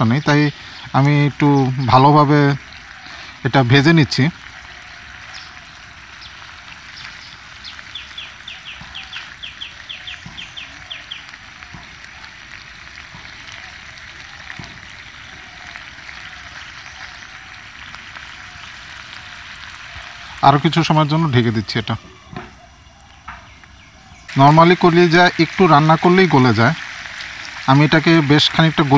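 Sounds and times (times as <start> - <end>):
chicken livers sizzling in a pan: 0.0 - 28.9.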